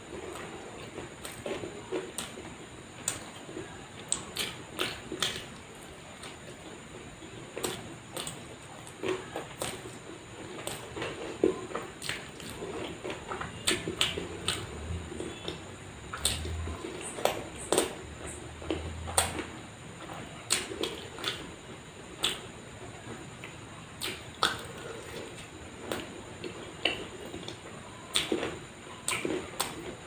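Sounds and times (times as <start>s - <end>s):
person chewing crunchy food: 0.0s - 22.5s, 23.2s - 30.0s.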